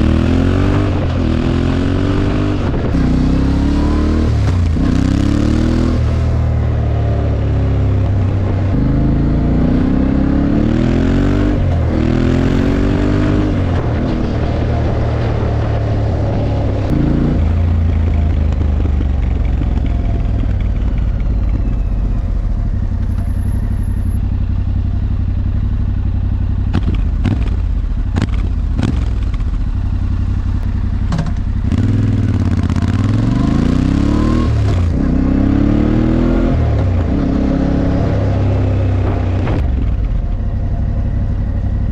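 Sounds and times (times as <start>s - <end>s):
motorcycle engine shifting gears: 0.0s - 41.9s.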